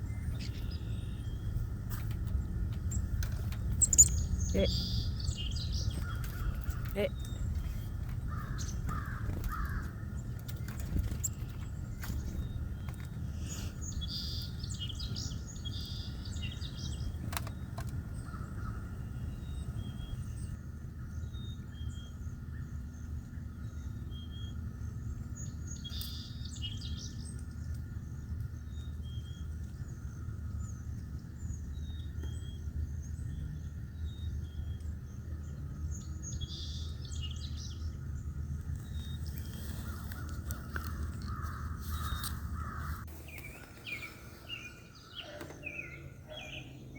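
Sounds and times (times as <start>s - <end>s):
birds chirping: 0.0s - 46.9s
low background rumble: 0.0s - 46.9s.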